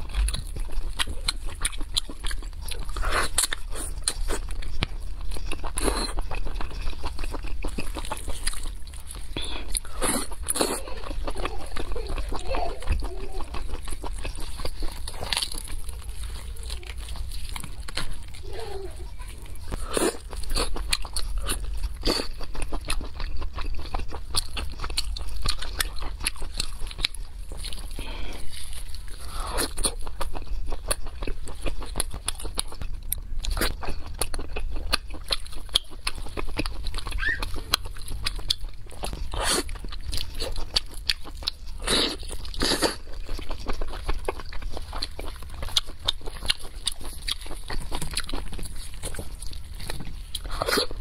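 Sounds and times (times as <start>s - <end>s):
chewing meat: 0.0s - 51.0s.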